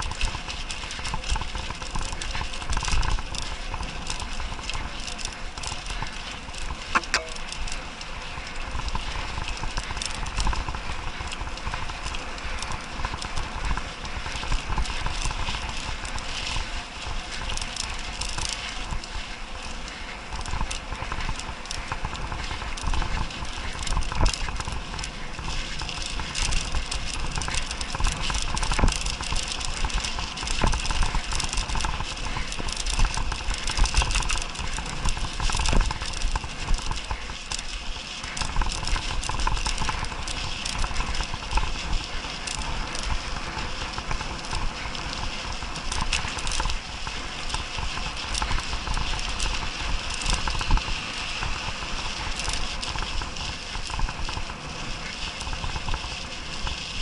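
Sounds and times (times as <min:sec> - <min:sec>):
bike rattling and clicking: 0:00.0 - 0:57.0.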